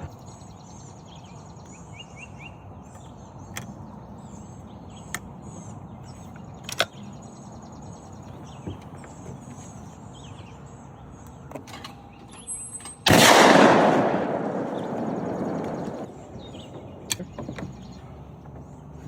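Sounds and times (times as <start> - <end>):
small birds chirping: 0.0 - 13.0, 14.1 - 19.0
outdoor background hush: 0.0 - 19.0.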